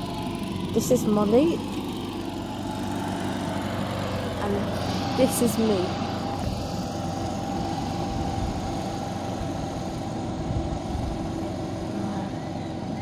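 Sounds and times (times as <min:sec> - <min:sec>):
distant small engine running: 0:00.0 - 0:13.0.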